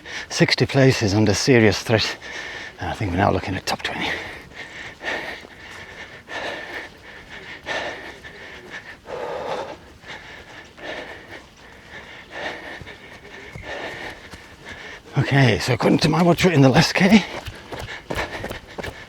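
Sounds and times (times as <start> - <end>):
runner breathing hard: 0.0 - 19.0.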